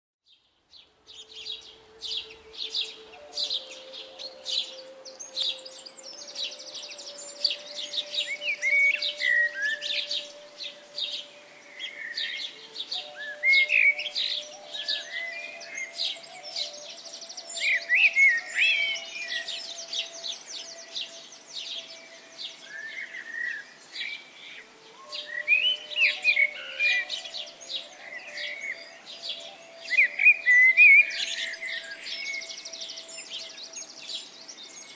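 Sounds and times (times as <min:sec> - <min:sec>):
songbirds chirping and singing: 0:00.3 - 0:34.9.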